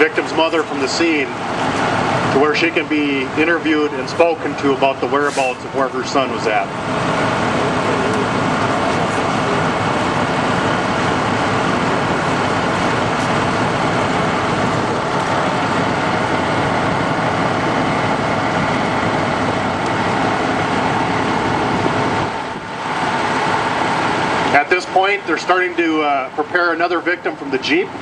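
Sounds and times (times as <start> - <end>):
large vehicle engines idling: 0.0 - 28.0.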